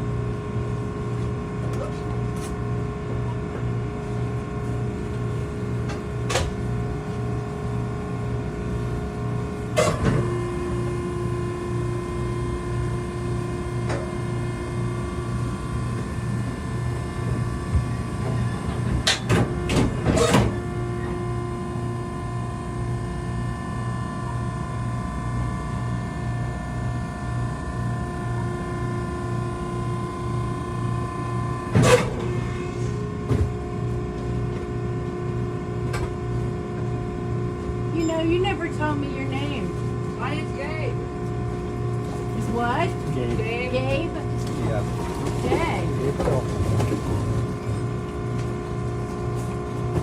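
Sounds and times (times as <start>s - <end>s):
hydraulic unit humming: 0.0s - 50.0s.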